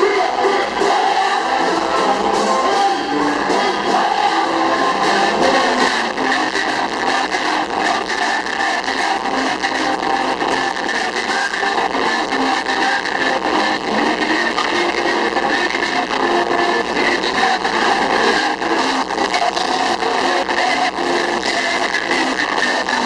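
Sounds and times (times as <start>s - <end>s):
crowd shouting: 0.0s - 23.0s.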